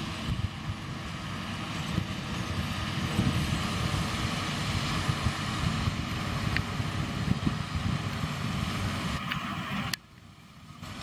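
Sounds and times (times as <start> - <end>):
wind buffeting the microphone: 0.0 - 10.0
tractor engine rumble: 0.0 - 11.0.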